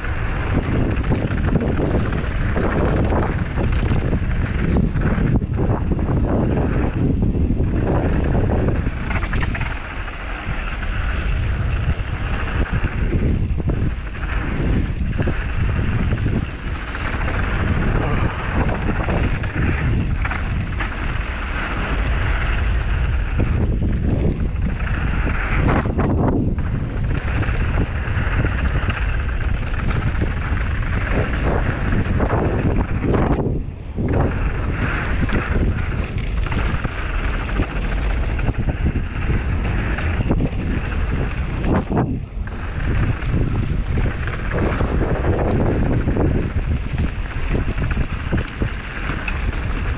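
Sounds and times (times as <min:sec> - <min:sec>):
bike rattling over bumps: 0:00.0 - 0:49.9
wind buffeting microphone: 0:00.0 - 0:49.9.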